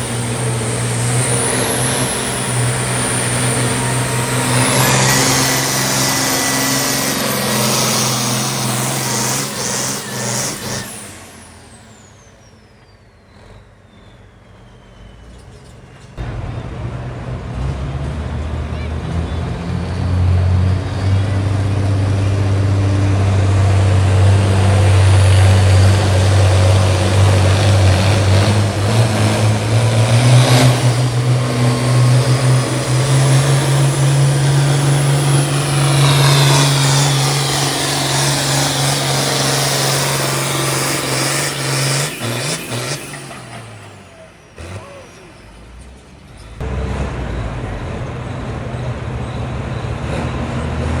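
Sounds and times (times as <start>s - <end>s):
tractor diesel engine under load: 0.0s - 51.0s.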